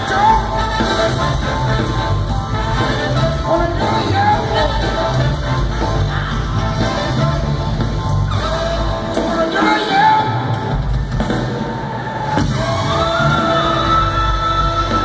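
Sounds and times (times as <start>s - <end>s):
person singing: 0.0s - 1.9s, 2.7s - 10.6s, 12.4s - 15.0s
live band music: 0.0s - 15.0s.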